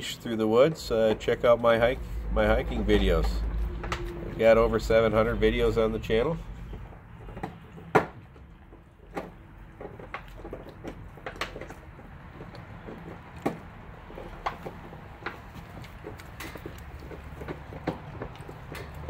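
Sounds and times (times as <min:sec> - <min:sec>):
puppy chewing and crunching bone: 0:00.3 - 0:19.0.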